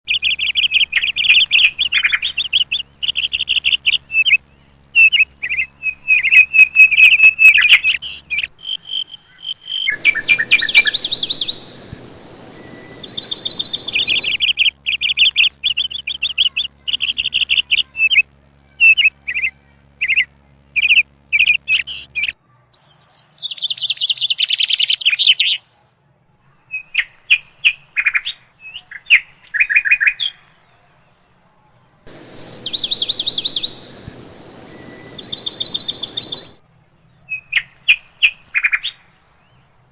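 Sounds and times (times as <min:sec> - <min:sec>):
small birds chirping: 0:00.1 - 0:25.6, 0:32.1 - 0:39.7.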